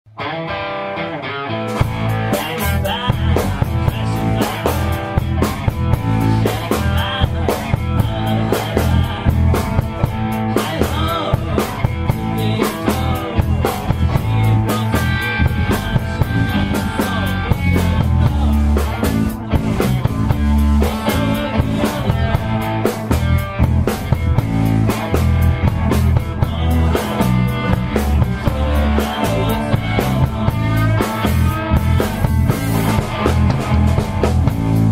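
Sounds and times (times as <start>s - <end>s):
electric guitar long high note: 0.1s - 34.9s
rock band playing: 0.1s - 34.9s.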